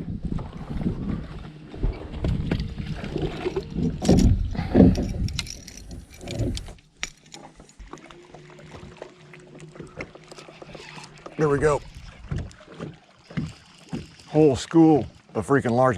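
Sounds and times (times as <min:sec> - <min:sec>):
knocks and splashes: 0:00.0 - 0:15.4
boat rumble: 0:00.0 - 0:15.9.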